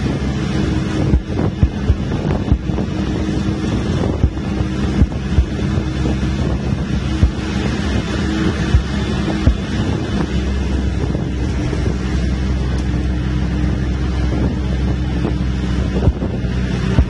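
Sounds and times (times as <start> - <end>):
bus engine running under load: 0.0 - 17.0
wind buffeting microphone: 0.0 - 17.0.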